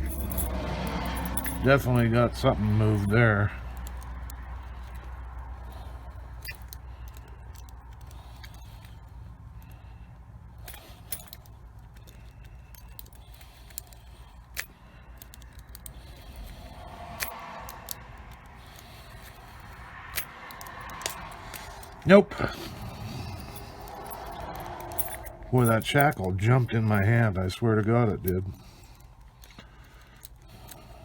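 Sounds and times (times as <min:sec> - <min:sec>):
metallic scraping and rattling: 0:00.0 - 0:09.9, 0:10.5 - 0:29.6.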